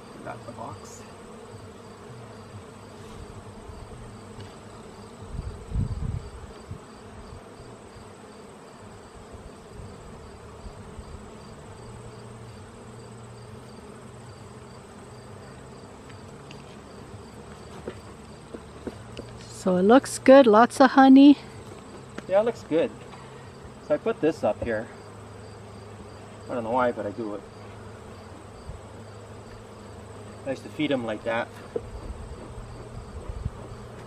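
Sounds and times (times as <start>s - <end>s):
honeybees buzzing: 0.0s - 34.0s.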